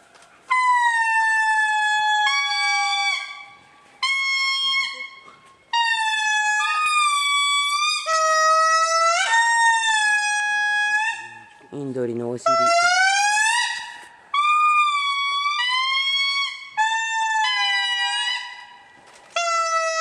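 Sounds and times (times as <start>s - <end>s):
lemurs wailing song: 0.5s - 11.6s, 12.4s - 18.8s, 19.4s - 20.0s.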